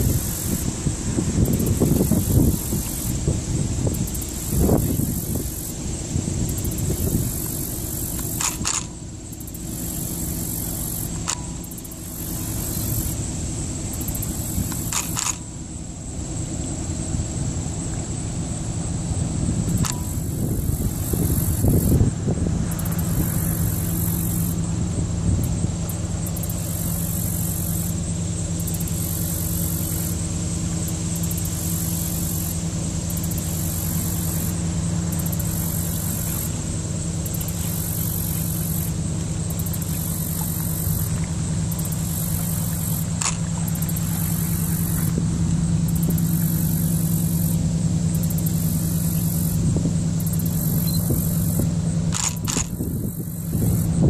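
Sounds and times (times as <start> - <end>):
ship engines droning: 0.0 - 54.0.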